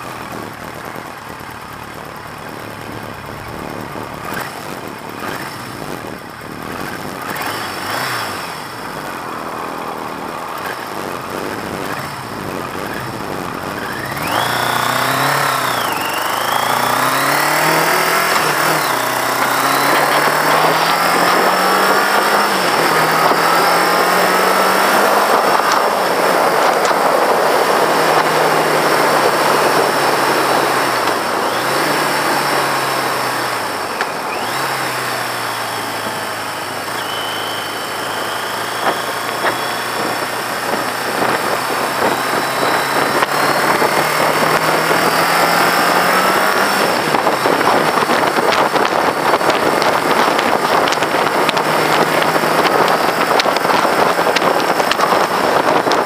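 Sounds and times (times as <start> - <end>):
motorcycle engine revving: 0.0 - 56.0
wind rush on microphone: 2.7 - 37.0, 37.8 - 56.0.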